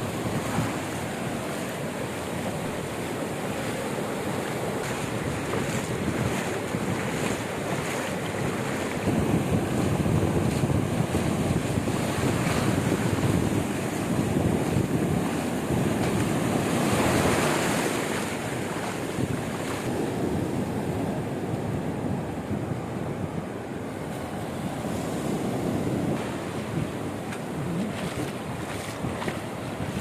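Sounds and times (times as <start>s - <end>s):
sea waves breaking on beach: 0.0s - 30.0s
wind buffeting microphone: 0.0s - 30.0s.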